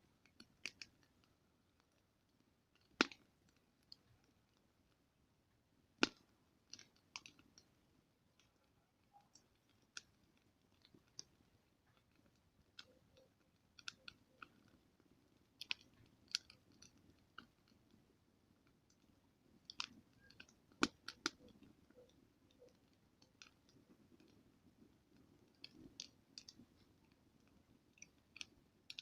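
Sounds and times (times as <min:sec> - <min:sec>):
campfire pops and snaps: 0:00.2 - 0:02.1, 0:02.7 - 0:05.0, 0:05.9 - 0:08.6, 0:09.2 - 0:29.0.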